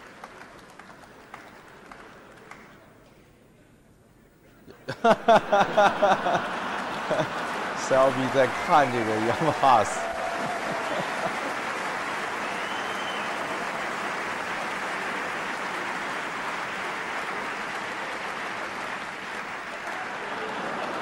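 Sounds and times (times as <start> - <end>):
audience applauding: 0.0 - 2.9, 5.0 - 21.0.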